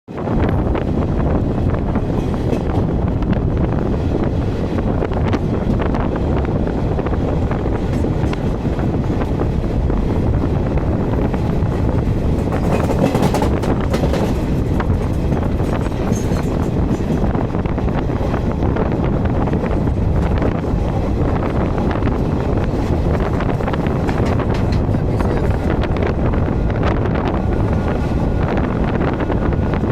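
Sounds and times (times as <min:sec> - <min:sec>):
train wheels rumbling on track: 0:00.1 - 0:29.9
wind rushing over microphone: 0:00.1 - 0:29.9.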